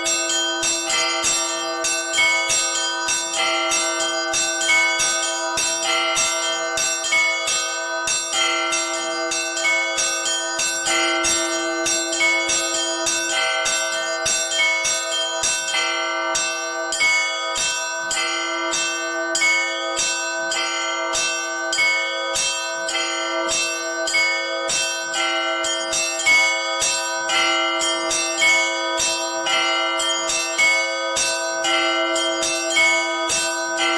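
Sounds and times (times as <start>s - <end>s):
deep bell tone: 0.0s - 33.9s
fast peal of small bells: 0.0s - 33.9s.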